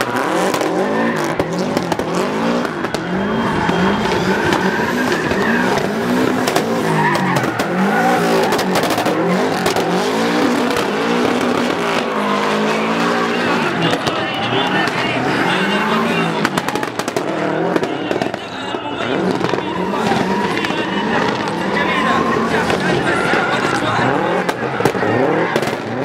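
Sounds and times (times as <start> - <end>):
car engine revving hard: 0.0 - 26.0
tyres squealing: 0.0 - 26.0.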